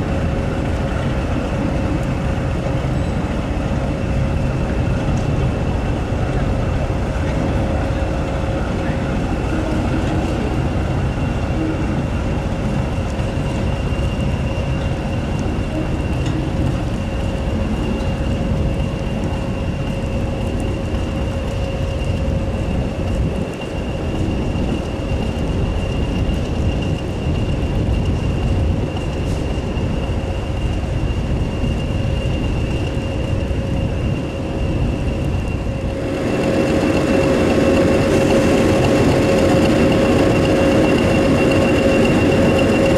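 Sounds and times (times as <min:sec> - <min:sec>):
diesel locomotive engine rumbling: 0:00.0 - 0:42.9.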